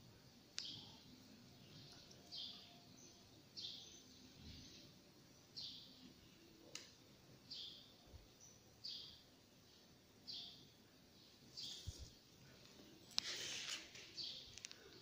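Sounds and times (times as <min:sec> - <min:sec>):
bird chirping faintly: 0:00.5 - 0:06.8, 0:07.4 - 0:15.0.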